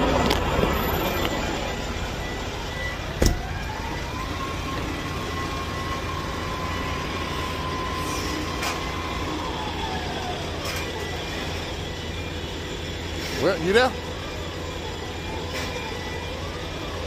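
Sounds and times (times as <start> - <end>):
high machine whine: 0.0 - 17.0.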